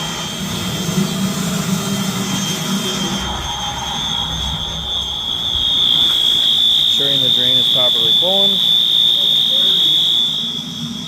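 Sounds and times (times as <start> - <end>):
fire alarm tone: 0.0 - 11.0.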